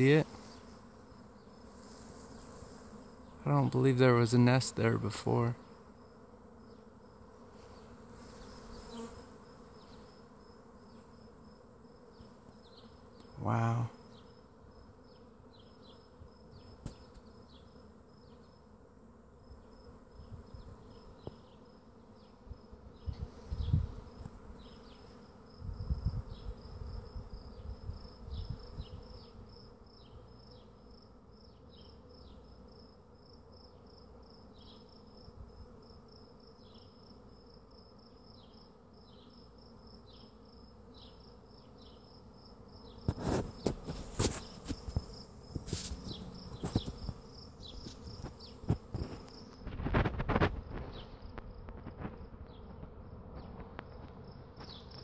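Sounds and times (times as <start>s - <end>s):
bee swarm buzzing: 0.0s - 55.0s.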